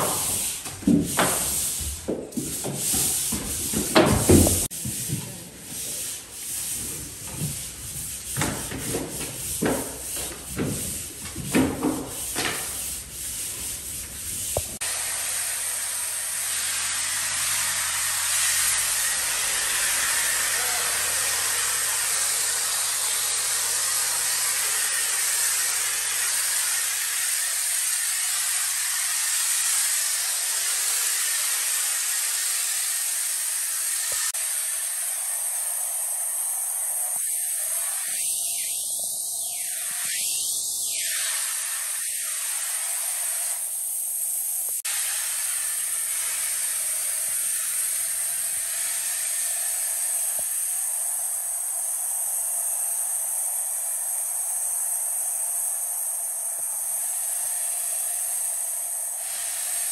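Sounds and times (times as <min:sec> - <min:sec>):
pole sander rubbing drywall: 0:00.0 - 0:54.0, 0:56.2 - 0:59.9
spray gun hissing: 0:00.0 - 0:59.9.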